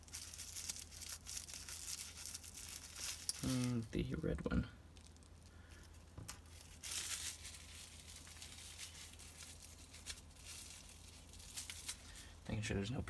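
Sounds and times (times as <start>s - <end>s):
bubble wrap crinkling: 0.0s - 12.6s.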